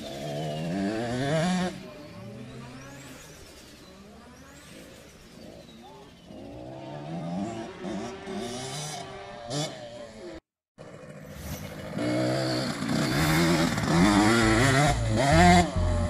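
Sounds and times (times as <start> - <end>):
motocross bike engine revving: 0.0 - 16.0.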